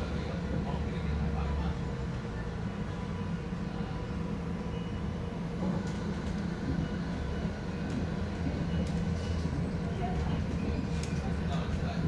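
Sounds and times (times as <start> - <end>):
trolleybus low rumble: 0.0 - 12.0.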